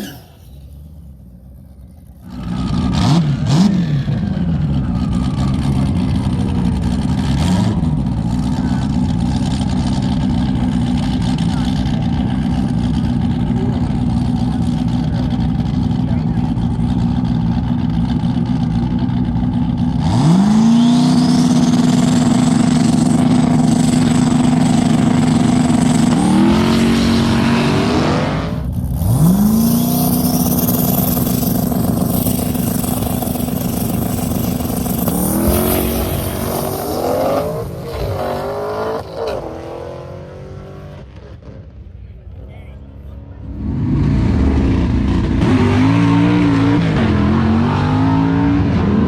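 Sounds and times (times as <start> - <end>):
drag car engine revving: 0.0 - 42.0, 43.4 - 49.0.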